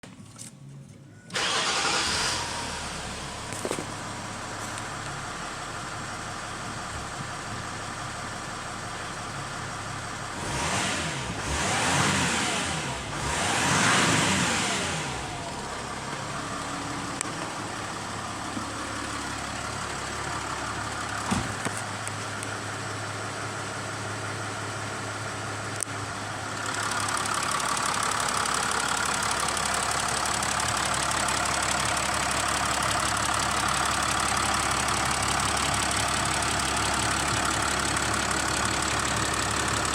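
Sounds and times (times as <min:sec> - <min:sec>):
car engine idling and revving: 0:01.3 - 0:39.9.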